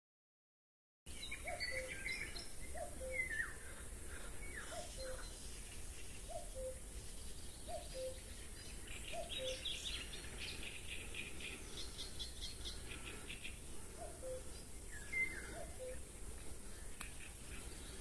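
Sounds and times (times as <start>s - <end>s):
high chattering birdsong: 1.1s - 18.0s.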